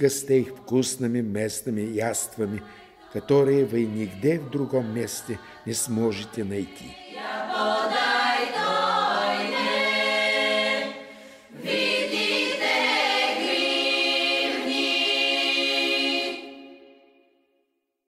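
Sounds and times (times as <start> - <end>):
choir singing held chords: 0.0 - 17.4.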